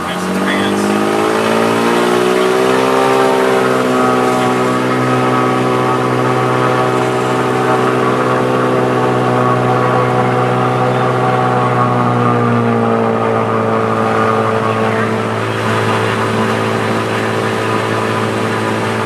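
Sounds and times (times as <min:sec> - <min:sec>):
aircraft engine and propeller drone: 0:00.0 - 0:19.0.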